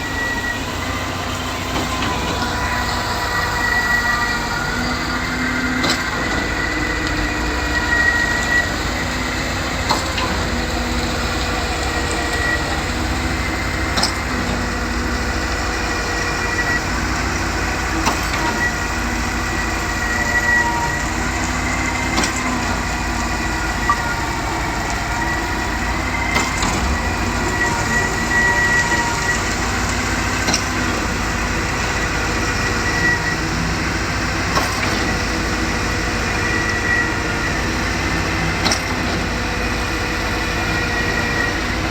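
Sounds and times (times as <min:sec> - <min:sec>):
concrete pump running: 0:00.0 - 0:41.9.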